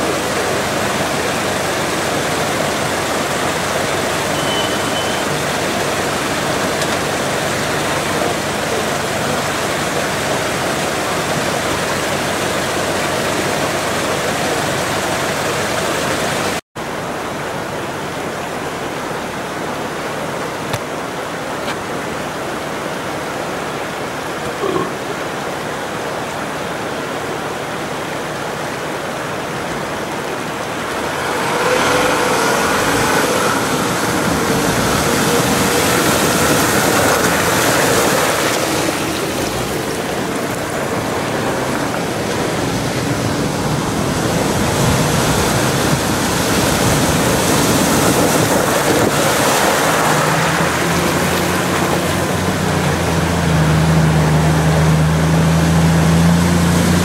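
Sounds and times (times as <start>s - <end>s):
rushing water of rocky river: 0.0s - 57.0s
vehicle engine driving through water: 0.0s - 57.0s.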